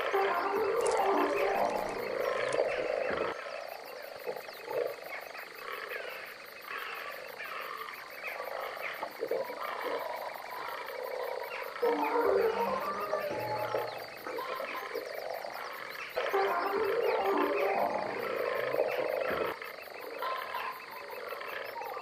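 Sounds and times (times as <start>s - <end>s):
frogs croaking in chorus: 0.0s - 22.0s.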